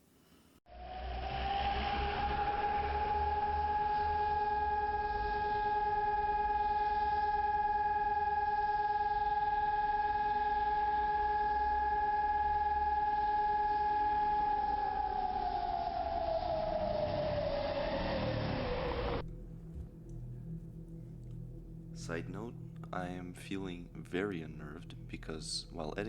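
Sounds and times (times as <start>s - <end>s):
air raid siren: 0.7s - 26.0s
low rumble: 0.7s - 26.0s.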